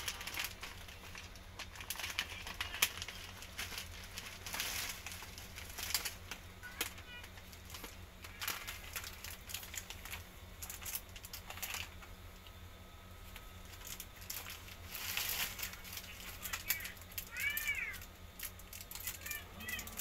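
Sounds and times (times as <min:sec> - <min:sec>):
plastic wrappers crinkling: 0:00.0 - 0:12.6, 0:13.2 - 0:20.0.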